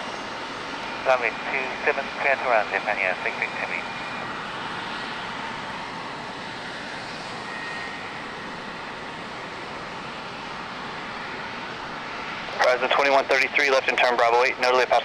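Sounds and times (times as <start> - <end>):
jet airliner engines running: 0.0 - 15.0.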